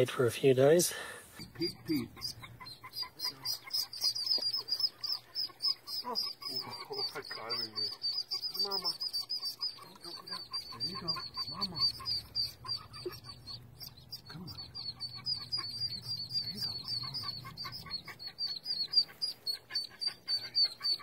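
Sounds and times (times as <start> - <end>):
ducklings peeping: 1.3 - 21.0.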